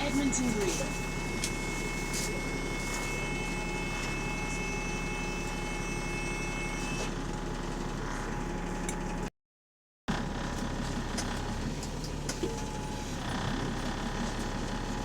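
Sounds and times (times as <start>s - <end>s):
bus engine running: 0.0s - 9.3s, 10.1s - 15.0s.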